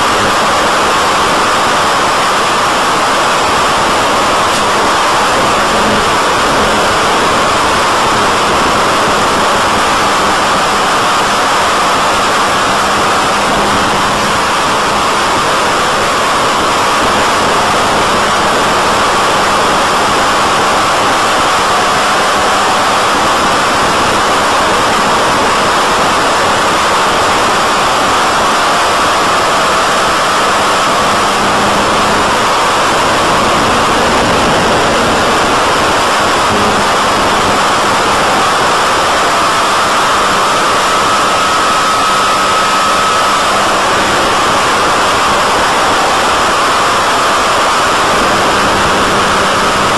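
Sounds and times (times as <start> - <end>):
airflow rushing over microphone: 2.7 - 45.9.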